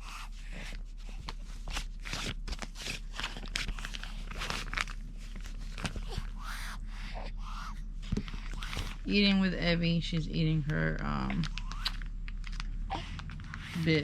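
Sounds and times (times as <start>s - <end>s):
baby chewing on crinkly bib: 0.0s - 9.2s, 10.6s - 14.0s
low electrical hum: 0.0s - 14.0s.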